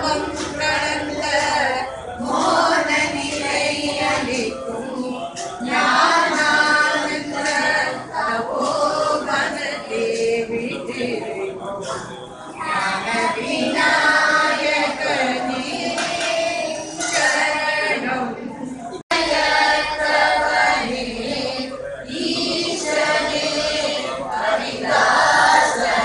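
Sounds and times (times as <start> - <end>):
group chanting in unison: 0.0 - 18.4, 19.1 - 26.0.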